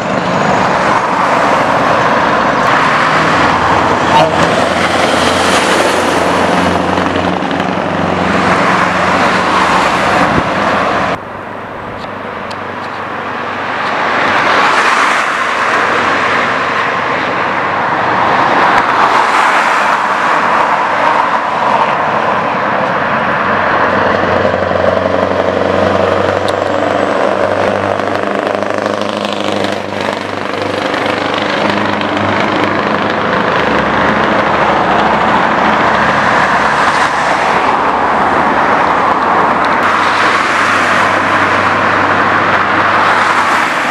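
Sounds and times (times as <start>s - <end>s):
truck engine running loud: 0.0s - 14.5s, 21.3s - 43.9s.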